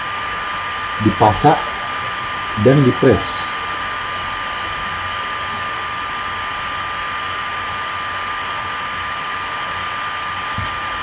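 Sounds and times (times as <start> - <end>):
faint low hum: 0.0 - 11.0
steady hiss: 0.0 - 11.0
thin high whine: 0.0 - 11.0.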